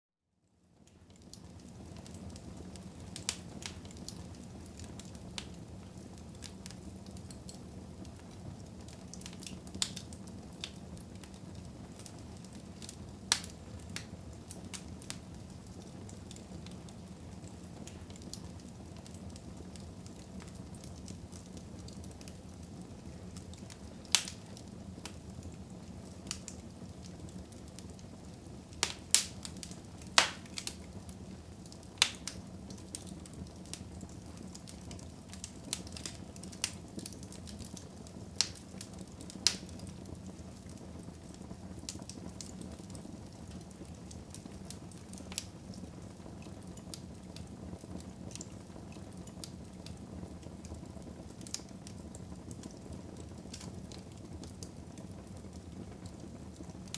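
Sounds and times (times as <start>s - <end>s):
low hiss: 0.4s - 56.9s
fire crackling: 0.6s - 56.9s.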